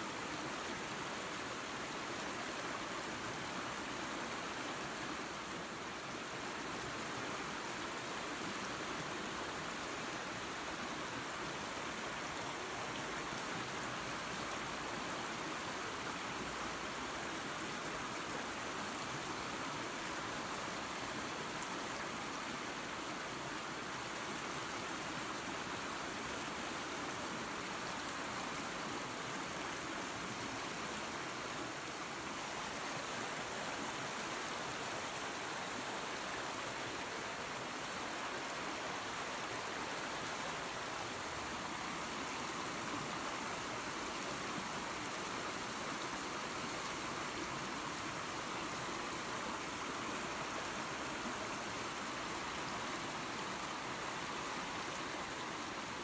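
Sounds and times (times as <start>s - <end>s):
waterfall and creek running: 0.0s - 56.0s.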